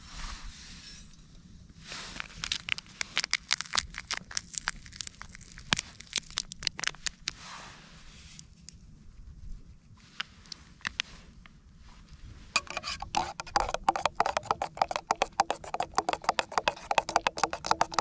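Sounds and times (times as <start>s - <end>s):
crinkling and crackling: 1.8s - 18.0s.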